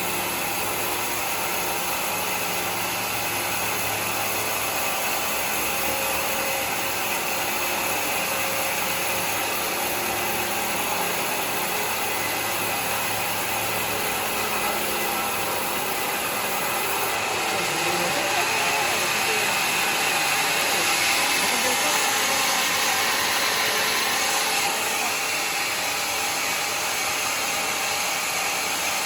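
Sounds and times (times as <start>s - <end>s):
sawmill machinery running: 0.0s - 29.0s.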